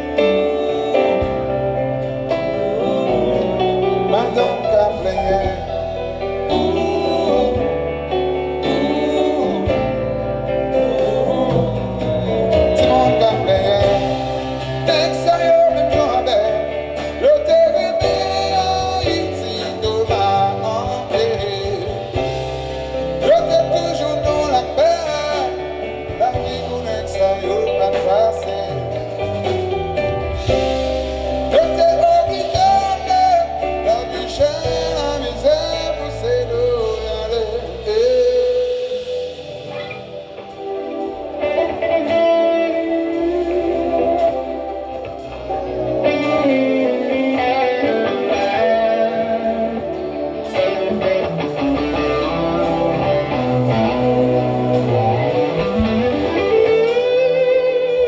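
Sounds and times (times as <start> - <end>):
bass line: 0.0 - 58.0
guitar: 0.0 - 58.0
person singing: 0.0 - 58.0.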